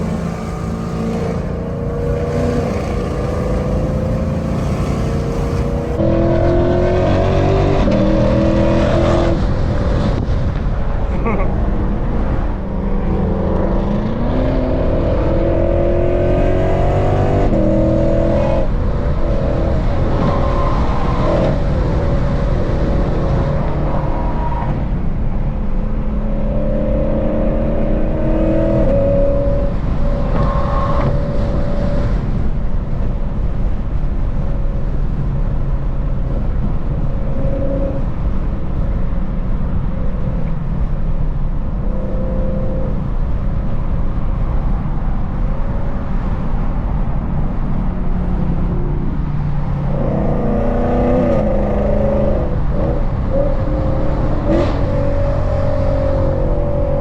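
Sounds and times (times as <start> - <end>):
car engine accelerating: 0.0 - 10.6, 11.2 - 57.0.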